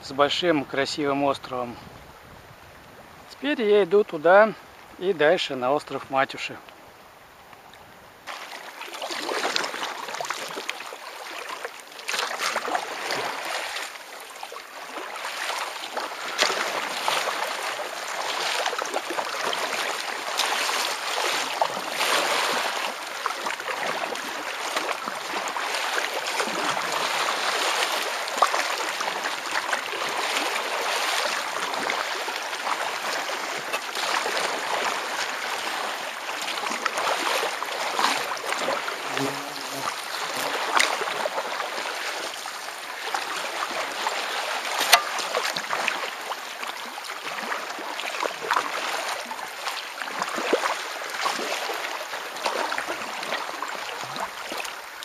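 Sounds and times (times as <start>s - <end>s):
paddle splashing: 7.4s - 55.0s
water sloshing against kayak hull: 7.5s - 55.0s.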